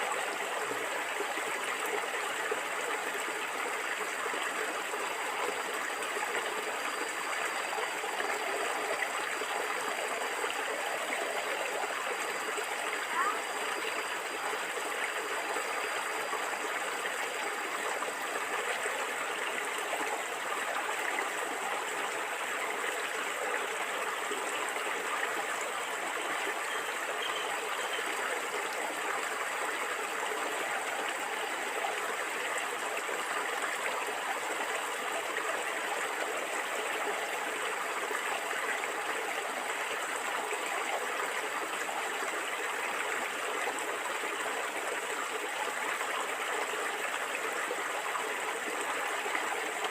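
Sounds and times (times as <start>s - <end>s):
stream water gurgling: 0.0s - 49.9s.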